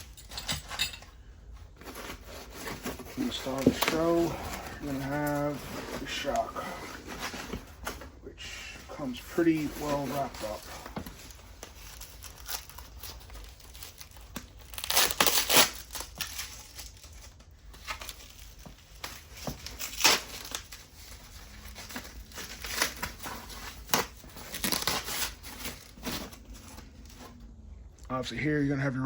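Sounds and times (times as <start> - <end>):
packaging crinkling and tearing: 1.7 - 27.4.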